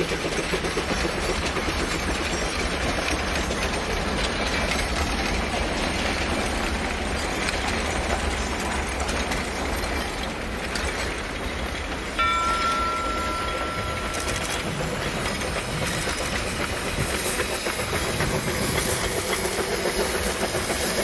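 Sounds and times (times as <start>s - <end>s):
steam train rumbling and clattering: 0.0s - 21.0s.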